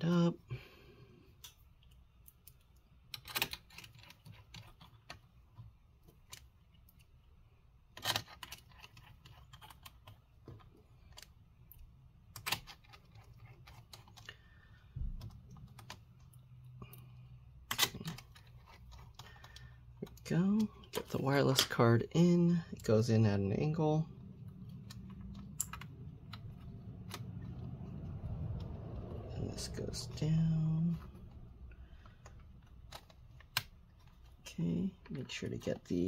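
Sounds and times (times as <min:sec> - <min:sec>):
laptop parts clicking: 0:01.3 - 0:07.2, 0:07.9 - 0:21.8, 0:24.2 - 0:29.2, 0:31.1 - 0:35.3.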